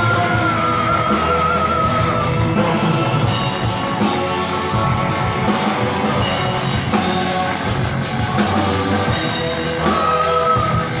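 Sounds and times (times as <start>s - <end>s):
drum kit beat: 0.0s - 11.0s
rock band music: 0.0s - 11.0s.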